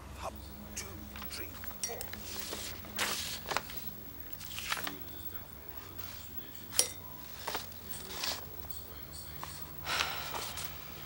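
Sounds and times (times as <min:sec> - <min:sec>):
paper rustling: 0:01.0 - 0:11.0.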